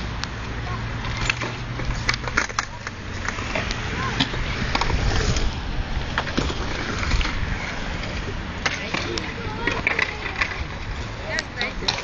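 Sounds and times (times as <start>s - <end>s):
bike tyres rolling on concrete: 0.0s - 12.0s.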